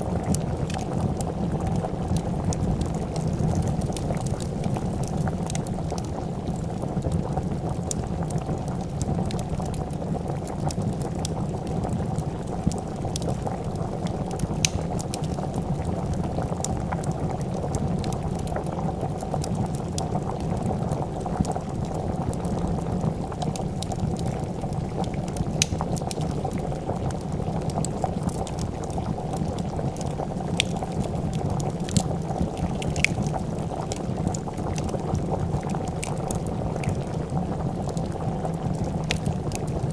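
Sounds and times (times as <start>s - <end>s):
soup bubbling: 0.0s - 39.9s
wood fire crackling: 0.0s - 39.9s.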